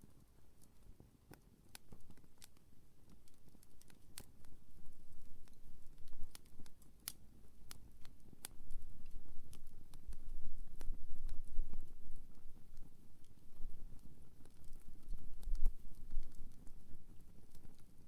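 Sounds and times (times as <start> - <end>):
campfire crackling and popping: 0.0 - 18.0
fire low rumble: 1.6 - 18.0.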